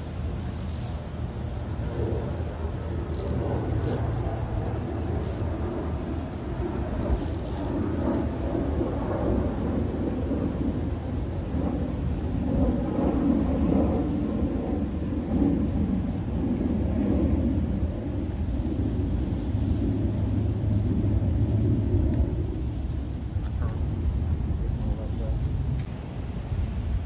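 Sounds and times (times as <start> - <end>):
low rumble of outdoor background noise: 0.0 - 27.0.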